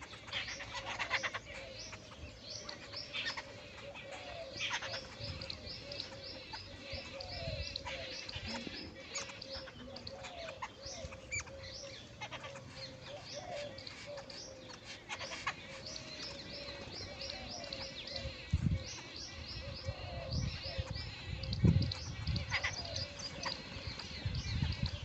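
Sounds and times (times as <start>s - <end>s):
birds chattering harshly: 0.0s - 25.0s.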